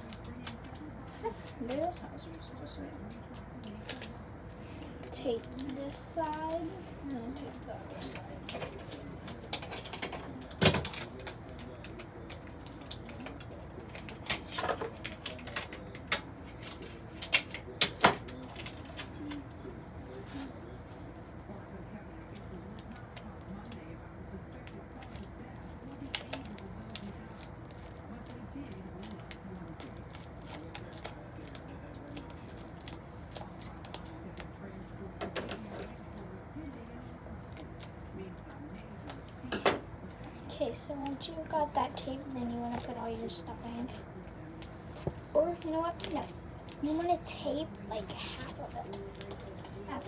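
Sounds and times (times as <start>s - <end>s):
packing tape crackling: 0.0s - 20.5s, 22.2s - 34.9s, 41.0s - 50.0s.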